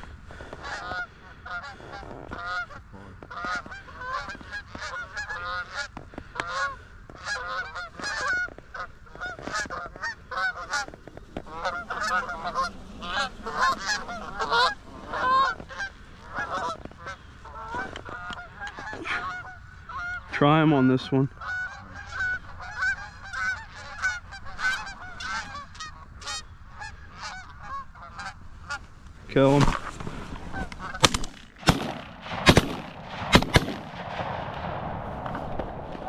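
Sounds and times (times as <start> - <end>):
geese honking: 0.0 - 29.7, 30.4 - 33.9.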